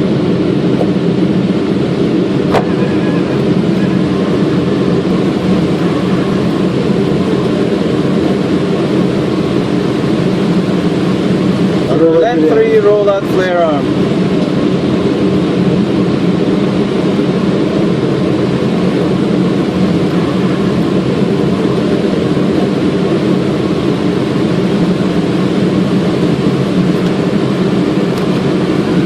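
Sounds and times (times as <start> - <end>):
airflow and engine noise: 0.0 - 29.0.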